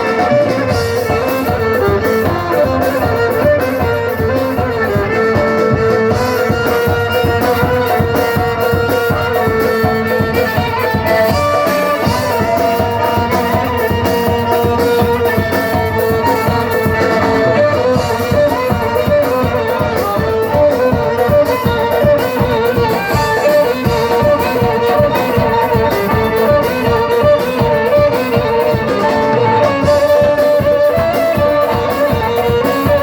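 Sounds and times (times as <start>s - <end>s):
held melody line: 0.0s - 33.0s
steady drum beat: 0.0s - 33.0s.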